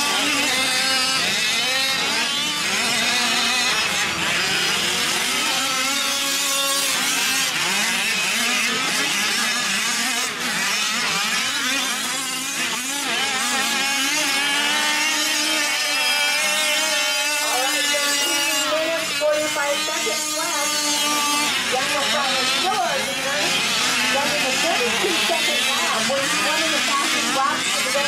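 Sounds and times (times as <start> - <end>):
rc truck engines revving: 0.0 - 28.0.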